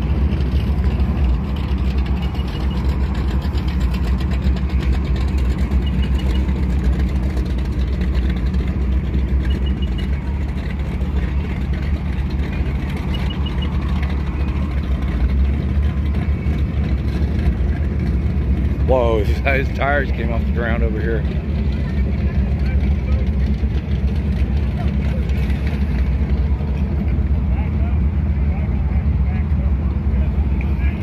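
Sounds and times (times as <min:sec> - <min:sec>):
vehicle engine idling: 0:00.0 - 0:31.0.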